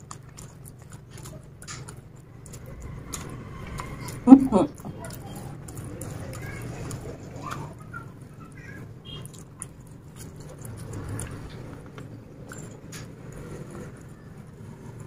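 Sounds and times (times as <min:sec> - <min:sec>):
person chewing and lip-smacking: 0:00.0 - 0:13.5
small wet clicks: 0:00.0 - 0:14.1
low background hum: 0:00.0 - 0:15.0.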